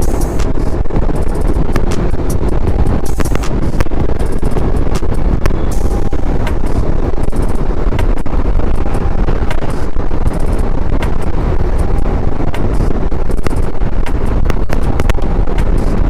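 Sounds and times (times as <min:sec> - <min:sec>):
motorcycle and road noise: 0:00.0 - 0:16.0
wind buffeting microphone: 0:00.0 - 0:16.0.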